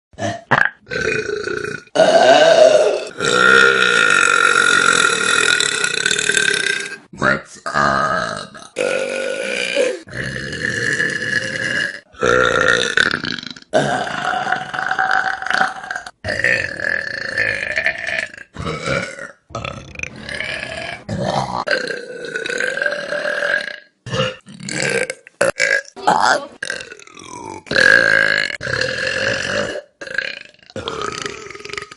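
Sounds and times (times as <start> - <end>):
long human belches: 0.2 - 31.9.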